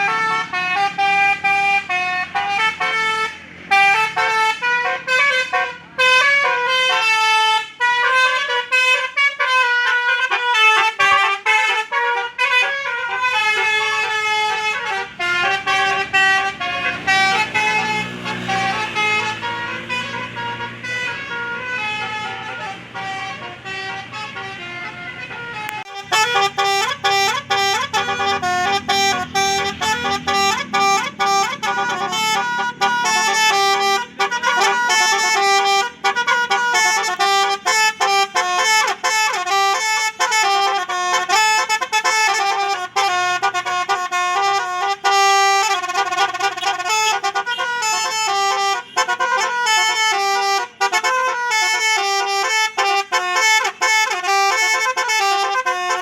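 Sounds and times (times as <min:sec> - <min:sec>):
low engine rumble: 0:00.0 - 0:56.0
multi-tone bus horn melody: 0:00.0 - 0:56.0.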